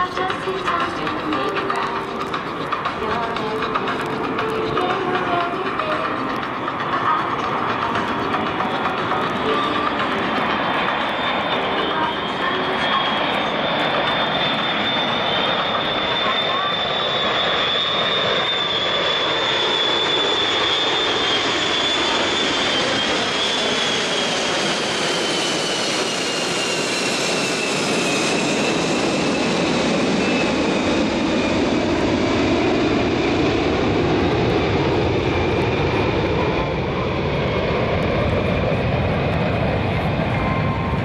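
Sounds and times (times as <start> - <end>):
jet planes flying overhead: 0.0 - 41.0.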